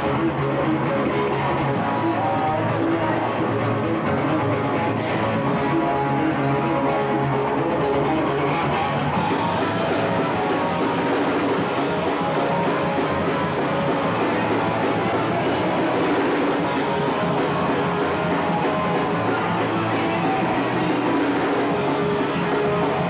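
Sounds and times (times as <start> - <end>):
live punk rock band: 0.0 - 23.0.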